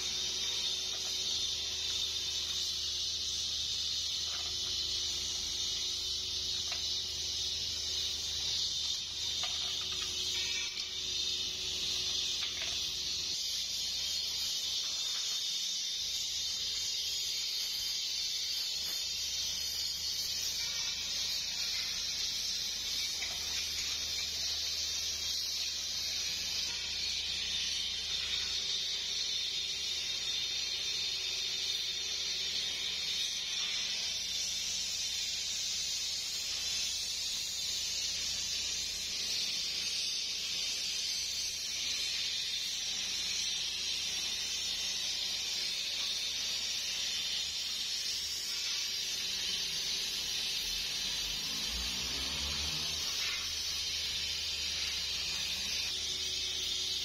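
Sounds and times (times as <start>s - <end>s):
gas torch hissing: 0.0s - 57.0s.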